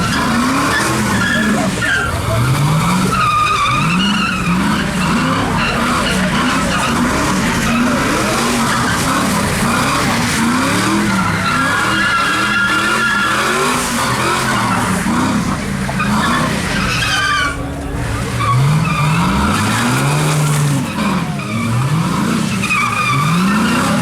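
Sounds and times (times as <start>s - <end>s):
car engine revving: 0.0s - 24.0s
tyres squealing: 0.0s - 24.0s.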